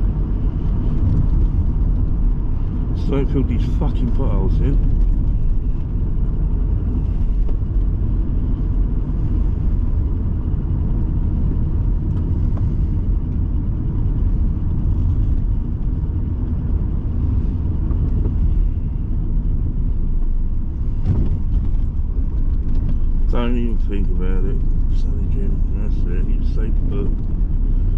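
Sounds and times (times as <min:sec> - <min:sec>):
car engine rumble: 0:00.0 - 0:27.9
tyre road noise: 0:00.0 - 0:27.9.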